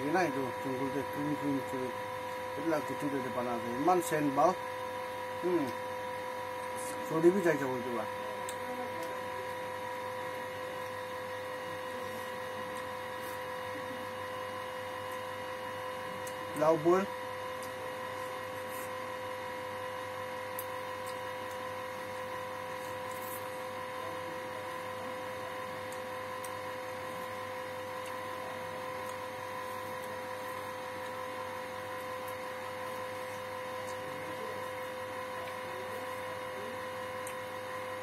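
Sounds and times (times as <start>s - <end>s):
steady two-tone hum: 0.0s - 38.0s.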